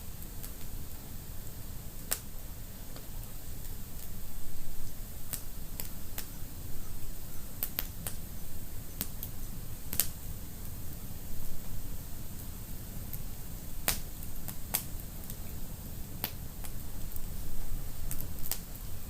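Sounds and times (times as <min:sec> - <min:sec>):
low rumble of flames: 0:00.0 - 0:19.0
wood fire crackling and popping: 0:00.1 - 0:04.2, 0:04.9 - 0:06.4, 0:07.6 - 0:18.9.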